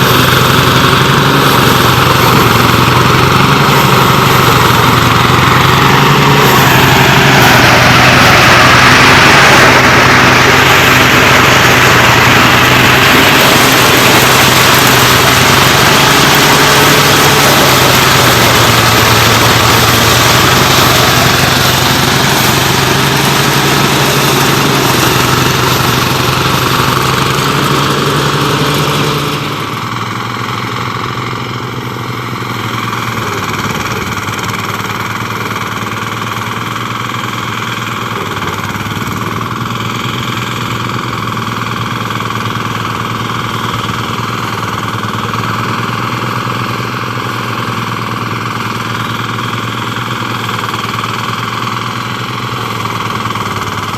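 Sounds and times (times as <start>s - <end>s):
harvester engine running: 0.0s - 53.9s.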